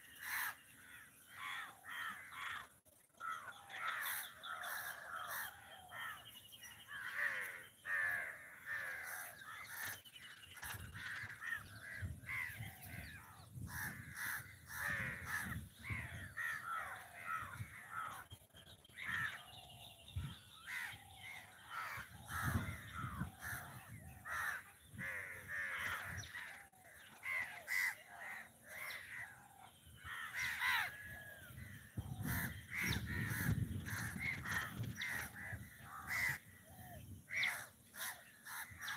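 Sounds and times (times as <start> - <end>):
crows cawing: 0.0 - 18.4, 20.6 - 38.9.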